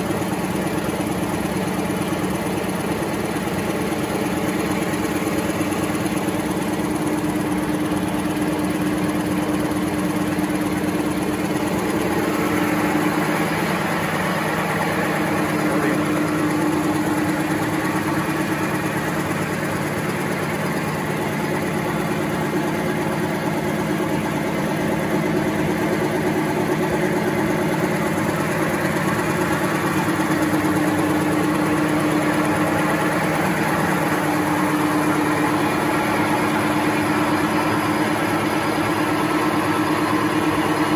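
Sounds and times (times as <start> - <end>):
paper machine humming: 0.0 - 40.9.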